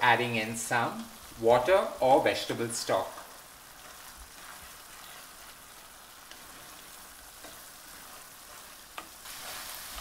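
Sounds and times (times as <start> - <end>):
rice sizzling in a pan: 0.0 - 10.0
spatula stirring: 1.0 - 10.0.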